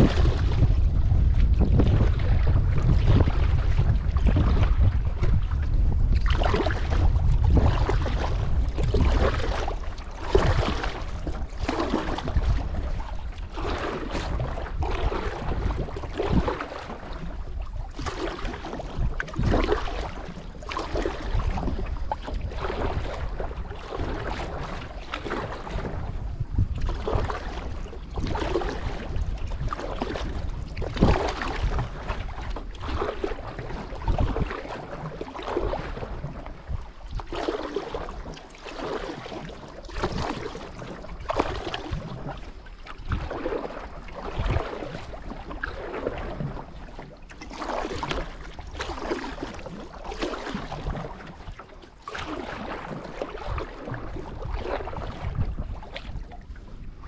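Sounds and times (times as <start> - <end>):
paddle splashing in water: 0.0 - 57.0
wind rumble on microphone: 0.0 - 57.0.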